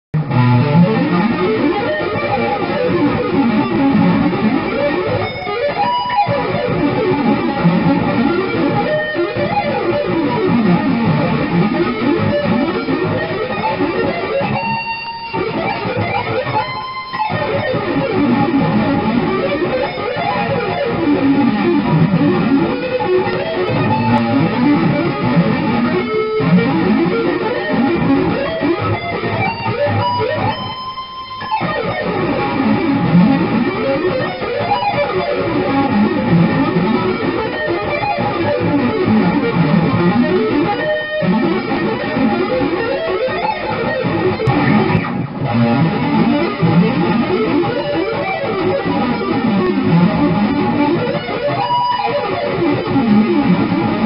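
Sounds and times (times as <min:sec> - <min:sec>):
electric guitar fast runs: 0:00.2 - 0:54.0.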